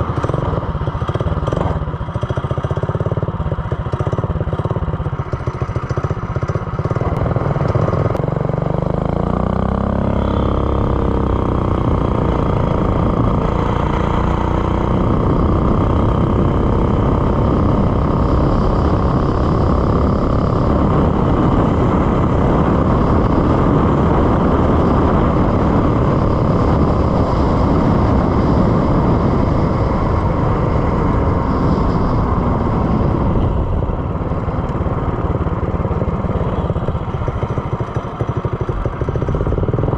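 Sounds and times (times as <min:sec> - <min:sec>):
small engine revving: 0:05.6 - 0:39.9.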